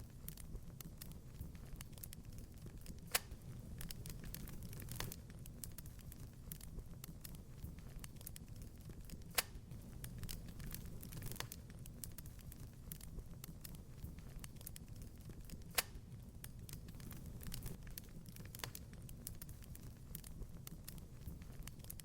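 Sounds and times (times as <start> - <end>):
wood fire crackling: 0.0 - 22.0
loud fire pops: 1.0 - 22.0.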